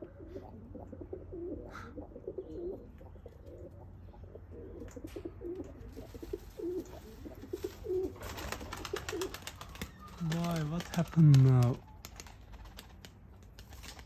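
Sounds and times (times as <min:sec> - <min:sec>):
pigeons cooing: 0:00.0 - 0:12.7.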